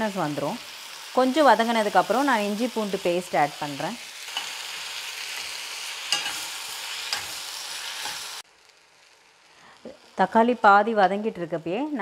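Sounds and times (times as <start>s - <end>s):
onions and tomatoes sizzling in oil: 0.0s - 12.0s.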